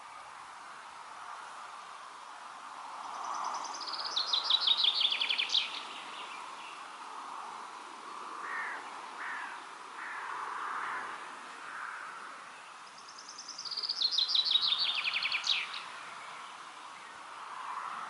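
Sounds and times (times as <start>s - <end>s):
outdoor background hiss: 0.0s - 18.0s
songbird singing: 0.0s - 18.0s.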